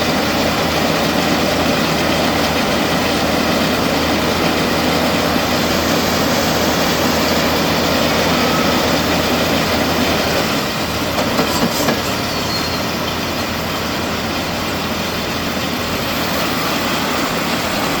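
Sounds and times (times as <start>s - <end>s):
diesel tractor running: 0.0s - 18.0s.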